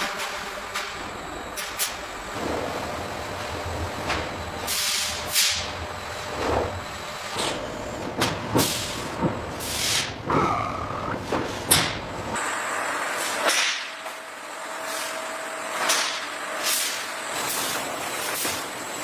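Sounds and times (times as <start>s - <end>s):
machinery running: 0.0s - 19.0s.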